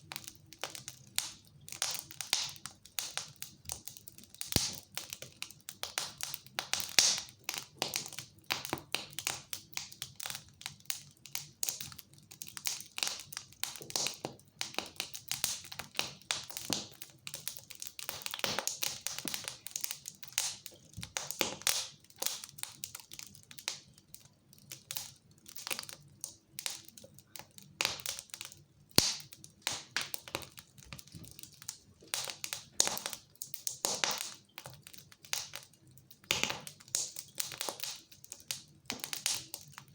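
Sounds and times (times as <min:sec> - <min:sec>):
wood fire pops and snaps: 0:00.1 - 0:39.9.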